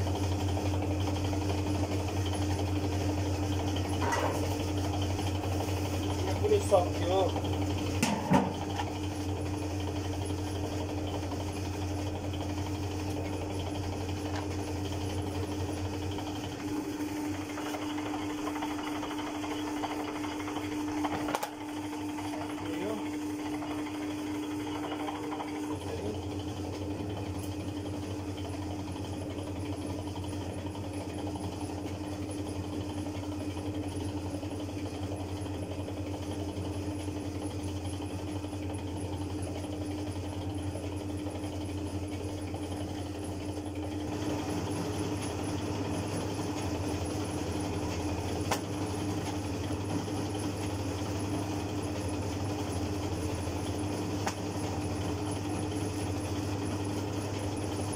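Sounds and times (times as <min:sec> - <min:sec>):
dough roller machine hum: 0:00.0 - 0:57.9.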